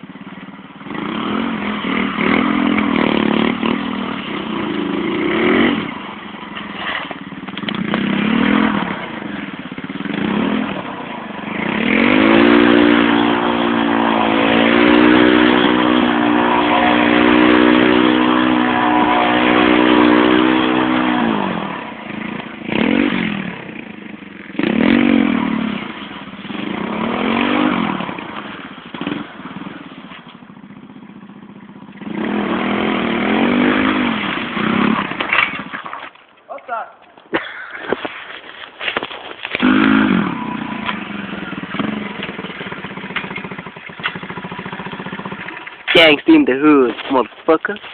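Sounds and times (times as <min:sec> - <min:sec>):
dirt bike engine revving: 0:00.0 - 0:36.1, 0:37.4 - 0:47.9.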